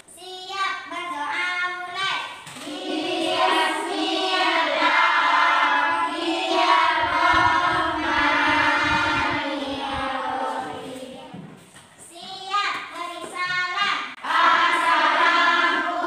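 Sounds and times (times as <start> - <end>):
children chanting a prayer: 0.2 - 16.0.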